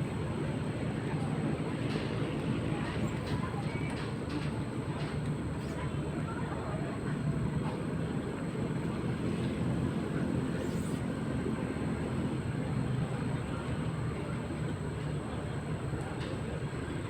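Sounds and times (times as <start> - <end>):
ship engines droning: 0.0 - 17.0.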